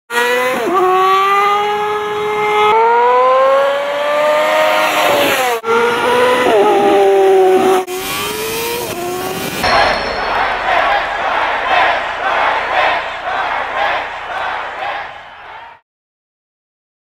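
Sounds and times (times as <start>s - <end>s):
sport bike engine revving: 0.1s - 14.8s.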